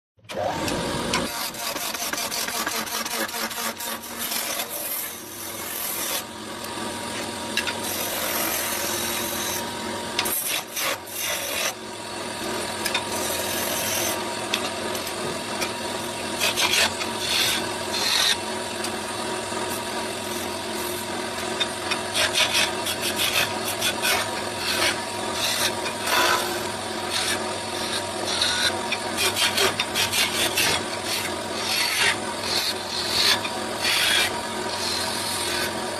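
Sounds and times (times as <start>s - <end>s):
cutting tool scraping spinning wood: 0.3s - 35.9s
lathe motor hum: 0.3s - 35.9s.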